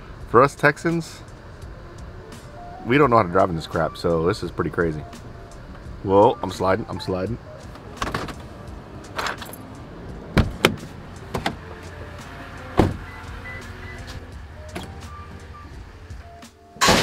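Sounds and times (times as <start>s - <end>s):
low steady rumble: 0.0s - 16.4s.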